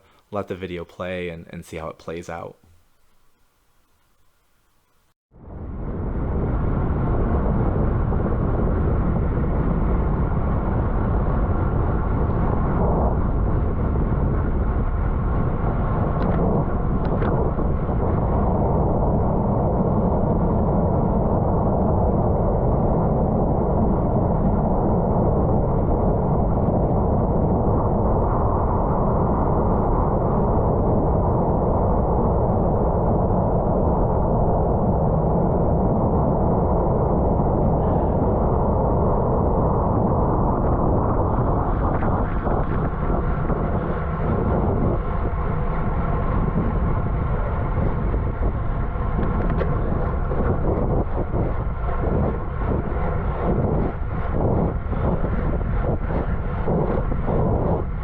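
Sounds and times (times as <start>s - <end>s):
wind buffeting microphone: 5.4s - 58.0s.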